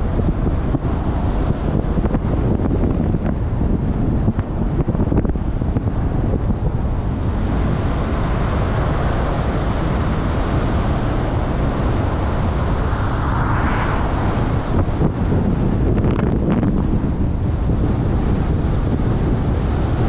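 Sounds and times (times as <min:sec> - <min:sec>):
road rumble: 0:00.0 - 0:20.0
wind buffeting on microphone: 0:00.0 - 0:20.0.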